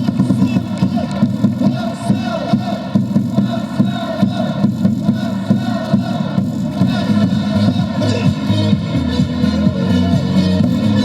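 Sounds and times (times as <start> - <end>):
cheer music over loudspeakers: 0.0 - 11.0
crowd chanting and cheering: 0.0 - 11.0.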